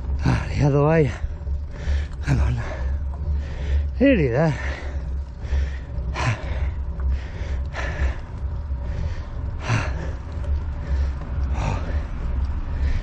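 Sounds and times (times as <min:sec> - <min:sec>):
cyclist breathing hard: 0:00.0 - 0:13.0
low rumble: 0:00.0 - 0:13.0.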